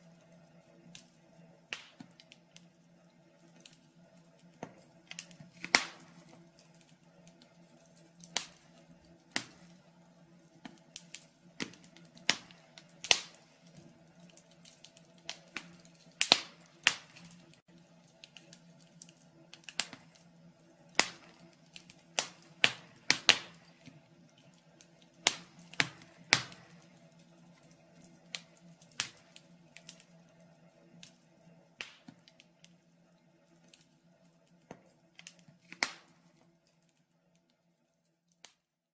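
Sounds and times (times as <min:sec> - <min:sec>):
wood fire crackling: 0:00.0 - 0:38.8.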